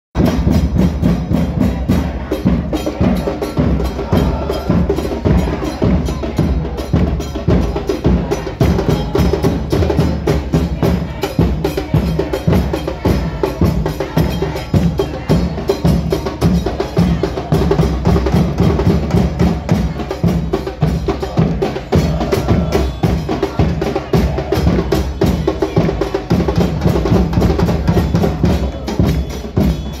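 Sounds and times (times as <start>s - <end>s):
bass drums beating: 0.2s - 30.0s.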